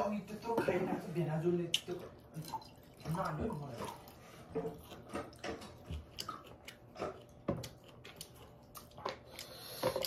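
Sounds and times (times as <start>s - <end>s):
person chewing food: 1.7s - 10.0s.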